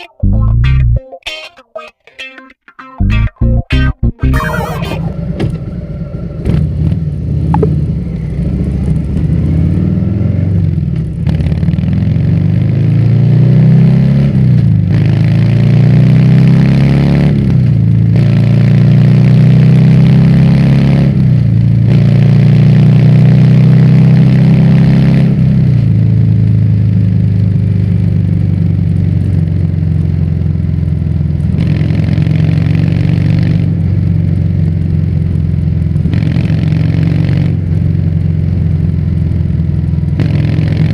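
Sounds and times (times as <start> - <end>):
motorcycle engine revving: 5.0 - 40.9.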